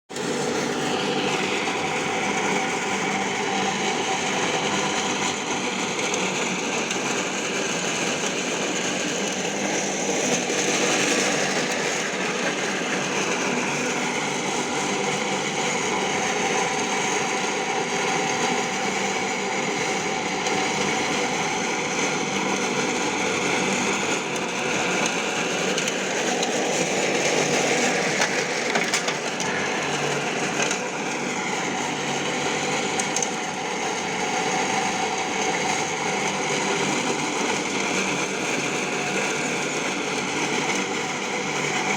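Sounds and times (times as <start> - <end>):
mini tractor engine running: 0.1 - 41.9.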